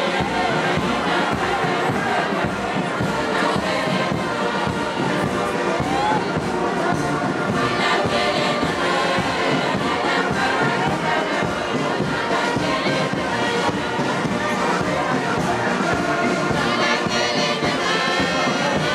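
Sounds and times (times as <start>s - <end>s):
crowd singing: 0.0s - 18.9s
large crowd noise: 0.0s - 18.9s
marching band with drums: 0.0s - 18.9s.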